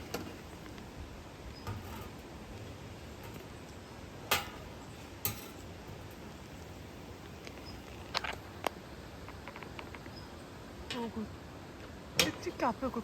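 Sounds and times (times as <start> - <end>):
campfire wood crackling: 0.0 - 13.0
low hiss: 0.0 - 13.0.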